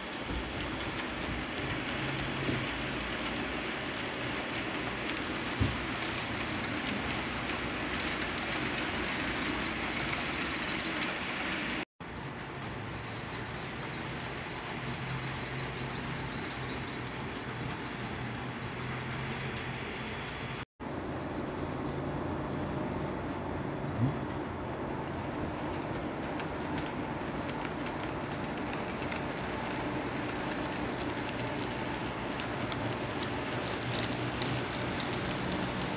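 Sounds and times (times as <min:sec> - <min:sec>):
model locomotive whirring on track: 0:00.0 - 0:35.9.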